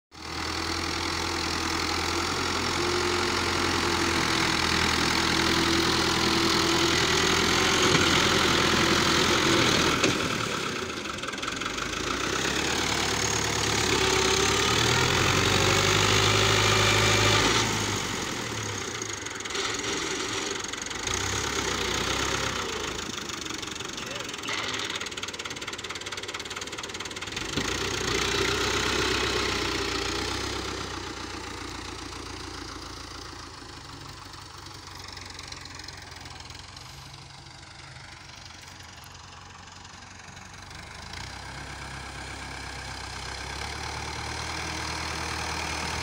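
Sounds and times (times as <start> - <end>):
tractor diesel engine revving: 0.2 - 46.0.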